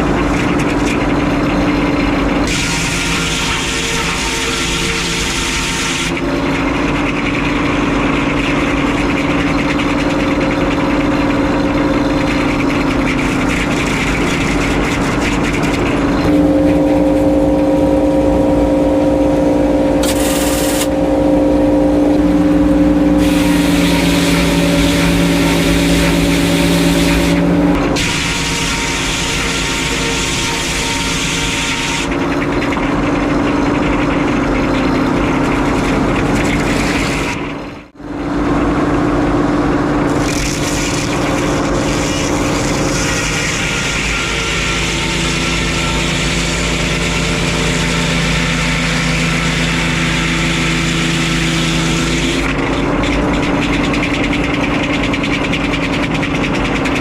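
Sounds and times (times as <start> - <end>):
saw blade and carriage noise: 0.0 - 38.0, 40.0 - 57.0
engine droning: 0.0 - 57.0.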